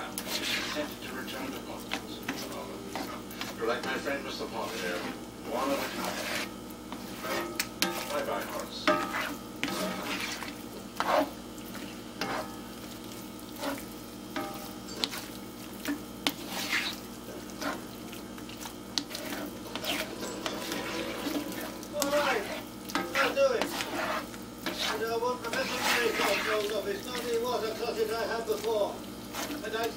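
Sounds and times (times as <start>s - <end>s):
eggs sizzling in skillet: 0.0s - 29.9s
spatula scraping pan: 0.0s - 29.9s.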